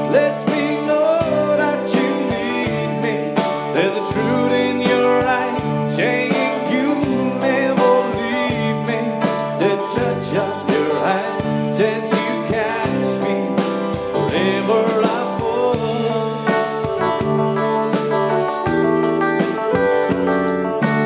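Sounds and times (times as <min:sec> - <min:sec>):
live pop band playing: 0:00.0 - 0:21.0.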